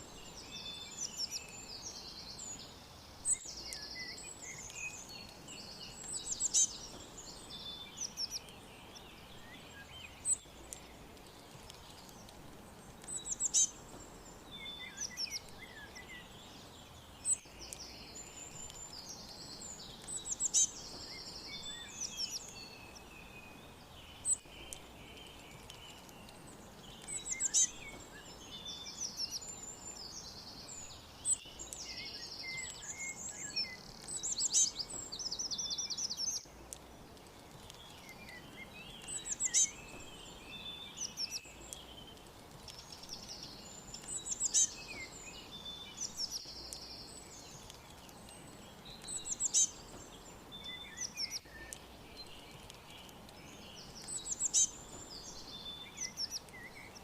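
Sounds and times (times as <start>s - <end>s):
faint background hiss: 0.0s - 57.0s
soft bird chirps: 0.0s - 57.0s.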